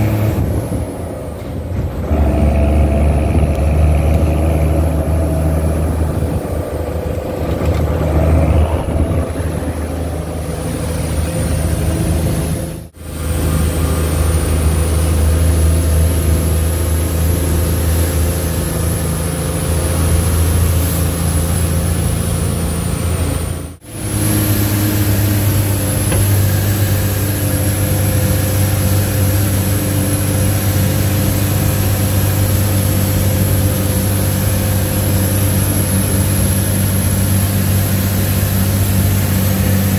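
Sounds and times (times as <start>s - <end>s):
truck engine hum from cab: 0.0s - 39.9s.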